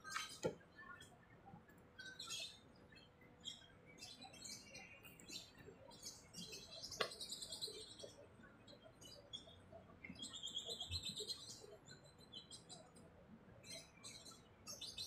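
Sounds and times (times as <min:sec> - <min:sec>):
small birds chirping faintly: 0:00.0 - 0:15.0.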